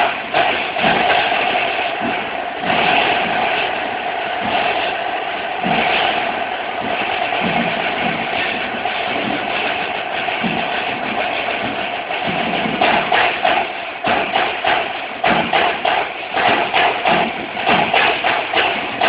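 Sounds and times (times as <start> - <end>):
accented snare drum strokes: 0.0 - 19.0
snare drum roll: 0.0 - 19.0.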